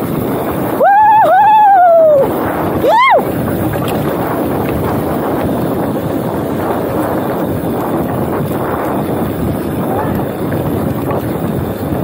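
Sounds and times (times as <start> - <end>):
bike tyres rolling on dirt: 0.0 - 12.0
wind rushing on microphone: 0.0 - 12.0.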